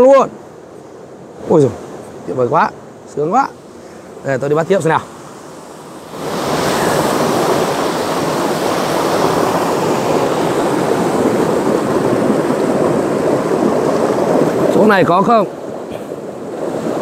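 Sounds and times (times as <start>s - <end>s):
stream water rushing and splashing: 0.0s - 17.0s.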